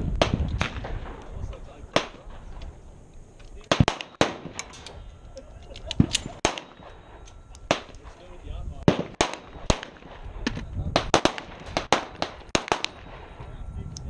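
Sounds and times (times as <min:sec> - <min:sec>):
gunshots: 0:00.2 - 0:02.6, 0:03.6 - 0:04.9, 0:06.0 - 0:13.6.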